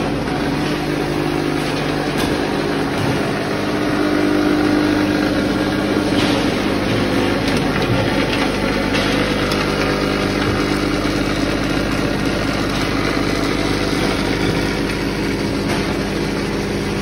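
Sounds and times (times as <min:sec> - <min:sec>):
metal fragments rattling on conveyor: 0:00.0 - 0:17.0
steady machine hum: 0:00.0 - 0:17.0.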